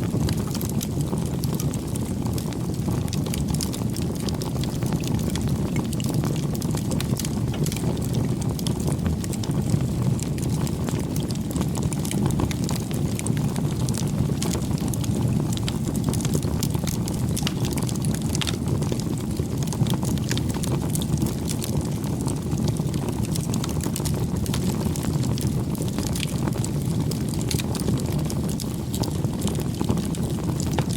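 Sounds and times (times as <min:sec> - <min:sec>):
bonfire flames rumbling: 0:00.0 - 0:30.9
burning wood crackling and popping: 0:00.0 - 0:30.9.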